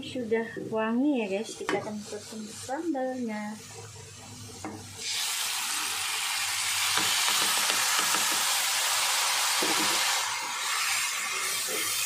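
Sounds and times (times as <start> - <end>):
chili paste sizzling in hot oil: 1.6 - 12.0.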